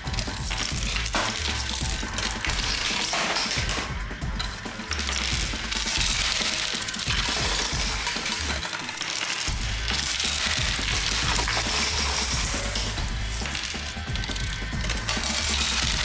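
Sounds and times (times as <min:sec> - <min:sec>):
coins clinking: 0:00.0 - 0:16.0.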